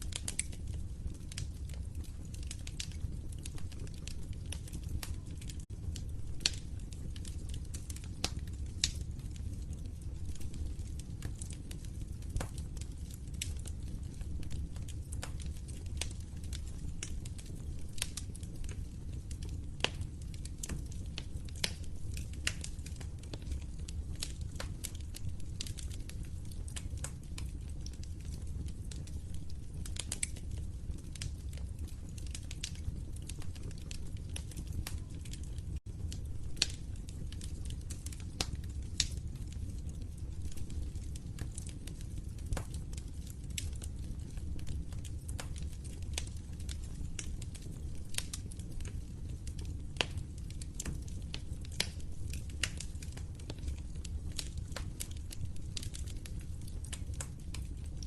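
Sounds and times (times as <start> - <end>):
low rumble of flames: 0.0 - 58.0
wood fire crackling: 0.0 - 58.0.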